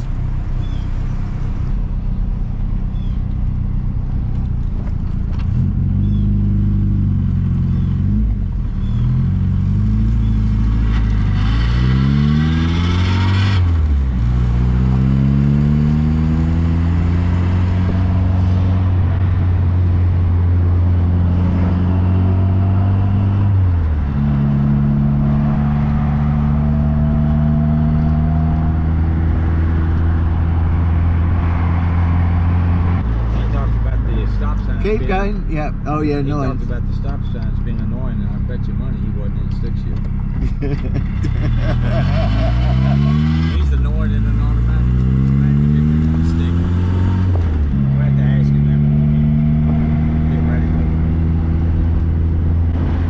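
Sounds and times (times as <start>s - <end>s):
car engine accelerating through gears: 0.0s - 53.0s.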